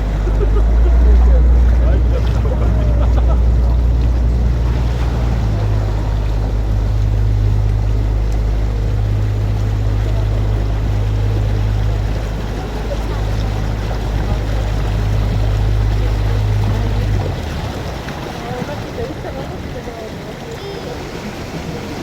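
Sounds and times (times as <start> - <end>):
boat motor humming: 0.0 - 22.0
water wash: 0.0 - 22.0.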